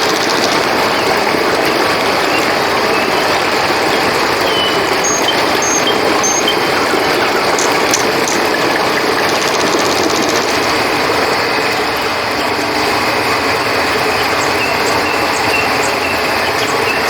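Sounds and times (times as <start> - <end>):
crickets chirping: 0.0 - 17.0
flowing river water: 0.0 - 17.0.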